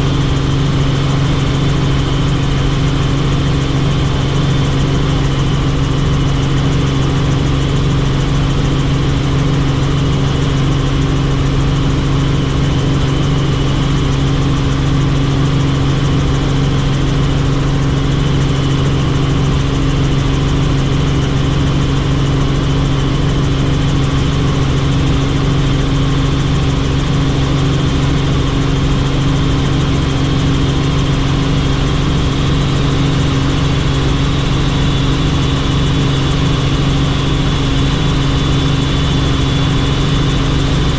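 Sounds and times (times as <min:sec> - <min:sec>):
helicopter engine and rotors: 0:00.0 - 0:40.9.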